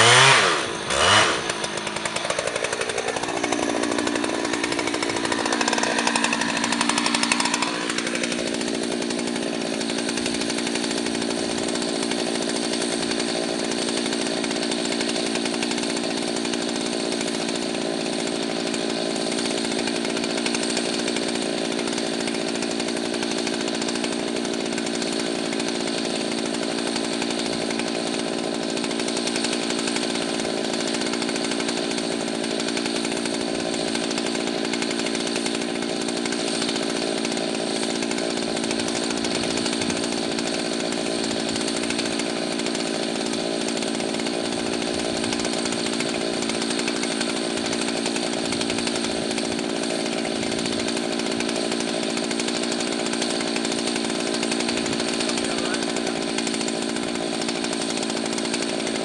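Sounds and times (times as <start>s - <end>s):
chainsaw engine running steadily: 0.0s - 59.0s.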